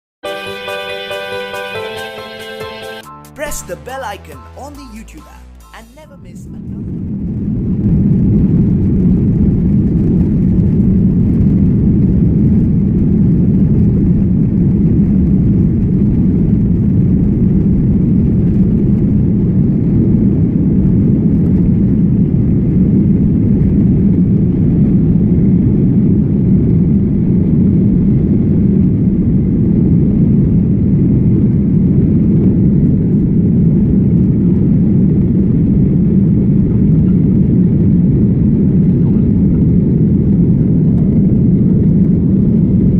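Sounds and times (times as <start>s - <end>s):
jet engine cabin rumble: 6.8s - 42.9s.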